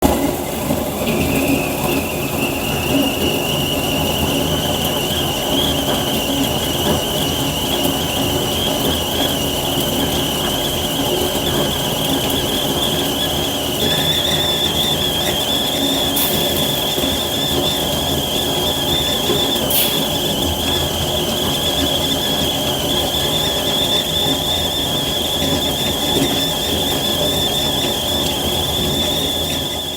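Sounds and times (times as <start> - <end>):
kettle whistling: 0.0 - 29.9.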